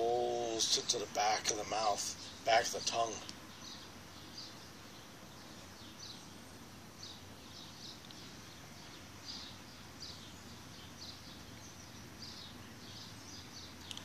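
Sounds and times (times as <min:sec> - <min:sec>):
bird chirping: 0:00.0 - 0:14.0
low background hum: 0:00.0 - 0:14.0.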